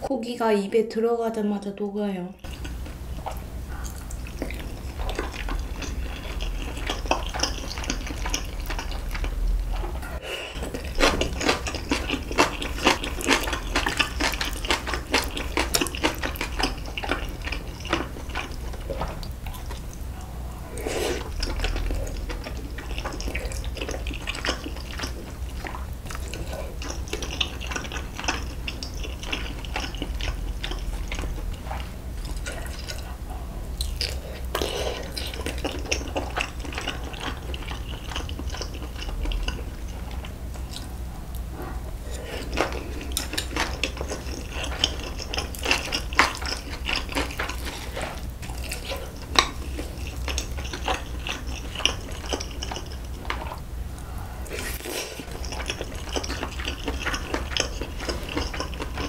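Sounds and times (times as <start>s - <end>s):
wet chewing and mouth smacks: 2.4s - 59.0s.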